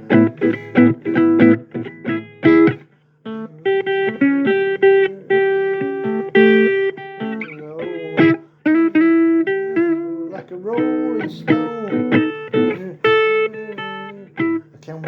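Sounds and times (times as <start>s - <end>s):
blues electric guitar: 0.0s - 15.0s.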